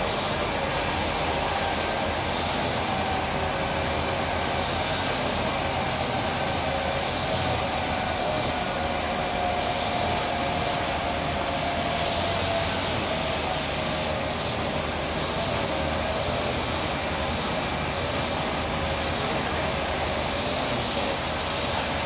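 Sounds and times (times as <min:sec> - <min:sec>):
crane engine and hydraulics: 0:00.0 - 0:22.0
hiss: 0:00.0 - 0:22.0
hydraulic whine: 0:00.0 - 0:22.0.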